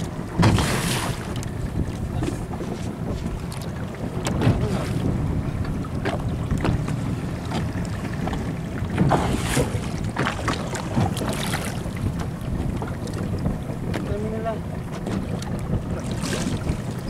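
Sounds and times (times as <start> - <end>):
splashes and knocks: 0.0 - 14.2, 14.9 - 17.0
water washing against boat hull: 0.0 - 17.0
wind buffeting microphone: 0.0 - 17.0.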